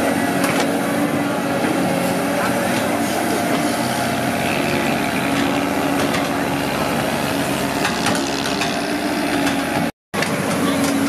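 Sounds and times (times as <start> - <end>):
excavator diesel engine: 0.0 - 11.0.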